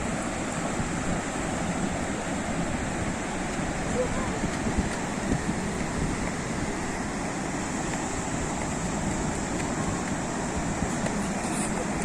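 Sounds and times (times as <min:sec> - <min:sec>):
deep surf rumble: 0:00.0 - 0:12.0
waves breaking on shore: 0:00.0 - 0:12.0.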